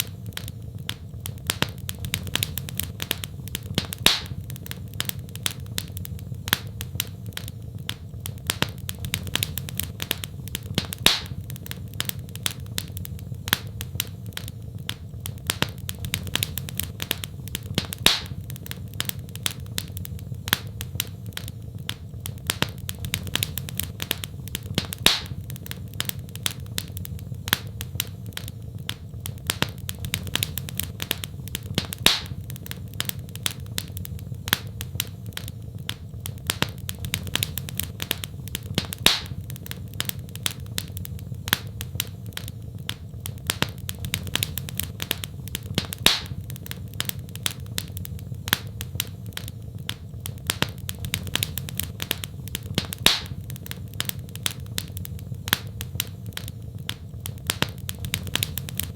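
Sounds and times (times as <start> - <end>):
fire crackling: 0.0 - 58.9
loud fire pop: 0.0 - 58.9
low fire rumble: 0.0 - 58.9.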